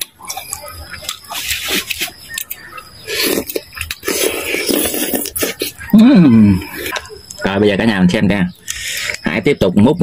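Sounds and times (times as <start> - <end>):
man chewing: 0.0 - 7.6, 8.6 - 9.3.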